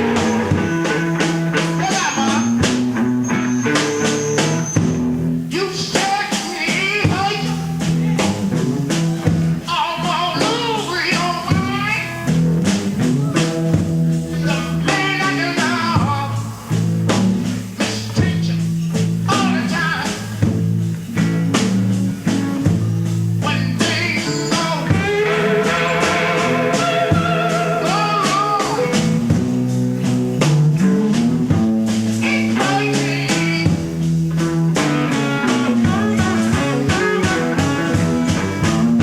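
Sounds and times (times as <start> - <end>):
blues band playing: 0.0 - 39.0
drums: 0.0 - 39.0
electric guitar bass line: 0.0 - 39.0
slide guitar: 0.0 - 39.0.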